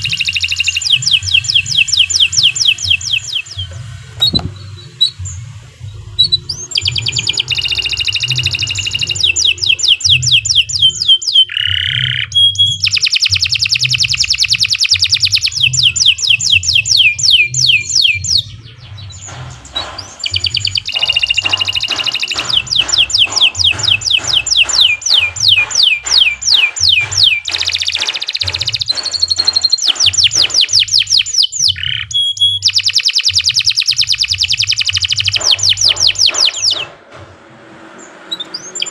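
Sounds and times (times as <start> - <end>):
canary singing trills: 0.0 - 37.0, 38.0 - 38.9.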